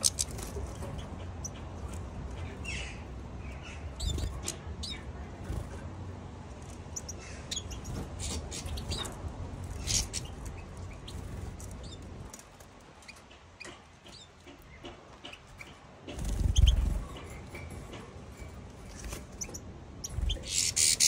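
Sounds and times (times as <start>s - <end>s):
finches chirping: 0.0s - 5.8s, 6.8s - 12.2s, 13.0s - 17.8s, 18.9s - 21.0s.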